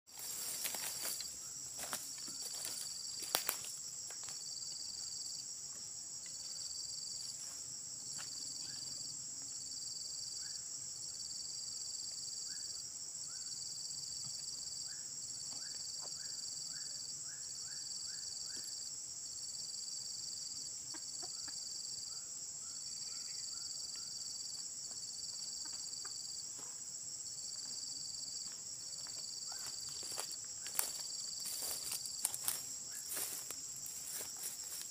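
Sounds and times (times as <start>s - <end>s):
high-pitched insect drone: 0.1s - 34.9s.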